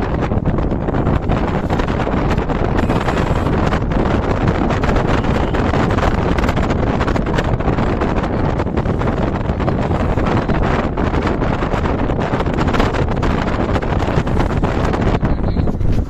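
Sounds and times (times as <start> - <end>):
wind and road noise in a car: 0.0 - 16.0
wind buffeting the microphone: 0.0 - 16.0.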